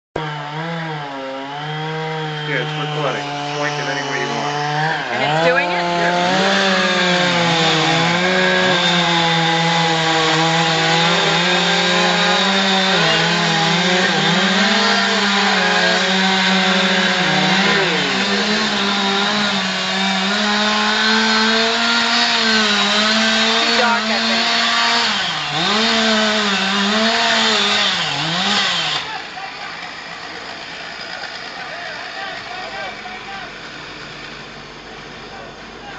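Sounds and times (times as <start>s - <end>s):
chainsaw engine running: 0.2s - 35.9s.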